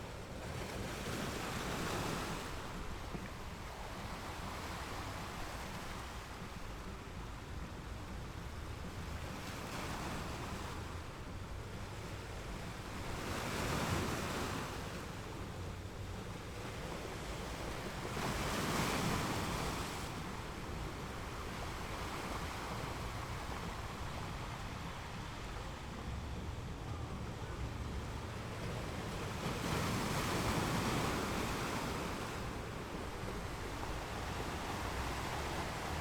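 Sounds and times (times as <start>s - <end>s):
ocean surf washing on beach: 0.0s - 36.0s
waves breaking: 0.0s - 36.0s.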